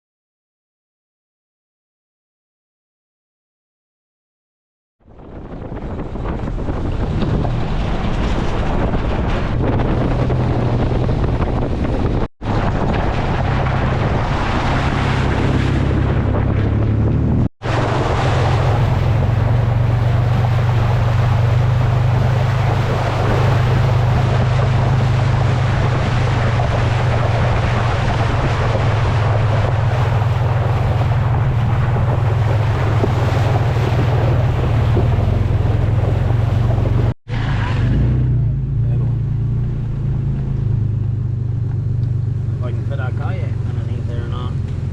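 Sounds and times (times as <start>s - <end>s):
car engine and road noise: 5.0s - 44.9s.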